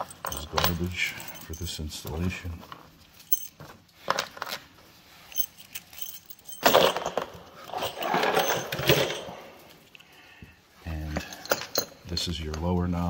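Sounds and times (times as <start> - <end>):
metal screws clinking on surface: 0.0 - 10.1, 11.0 - 12.6.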